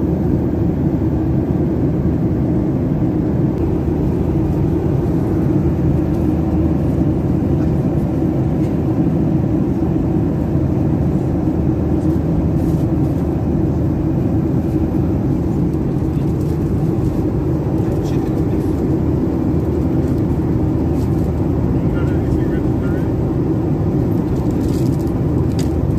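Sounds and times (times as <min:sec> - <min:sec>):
airplane cabin engine rumble: 0:00.0 - 0:25.9.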